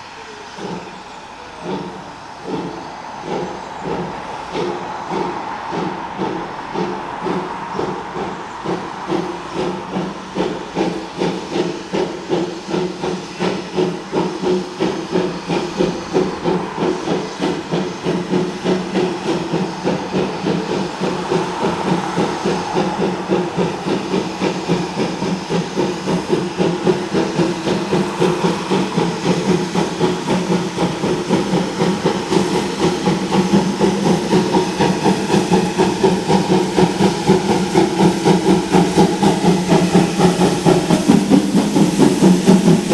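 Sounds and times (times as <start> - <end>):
steam hissing: 0.0 - 42.9
steam locomotive chuffing: 0.0 - 42.9.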